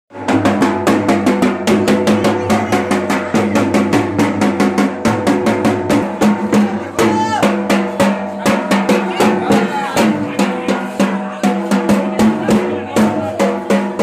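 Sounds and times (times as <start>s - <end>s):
large drum beaten with sticks: 0.1s - 14.0s.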